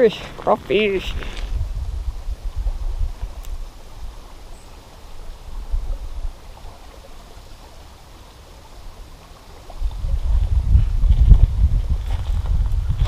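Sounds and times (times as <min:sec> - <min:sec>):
wind rumbling on microphone: 0:00.0 - 0:08.0, 0:08.7 - 0:13.0.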